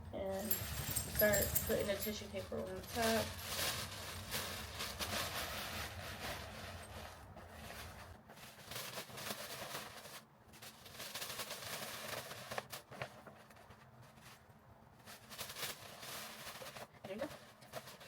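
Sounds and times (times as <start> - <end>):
tissue paper crinkling and rustling: 0.4 - 18.0.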